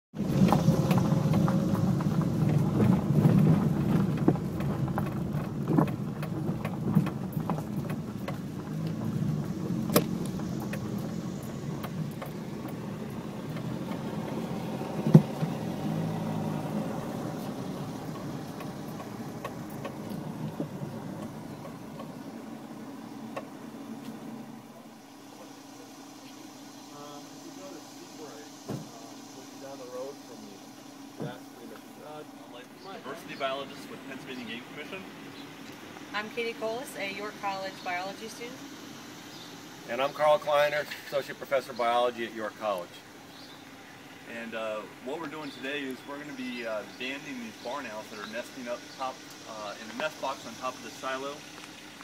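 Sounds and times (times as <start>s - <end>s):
engine low rumble: 0.1s - 52.0s.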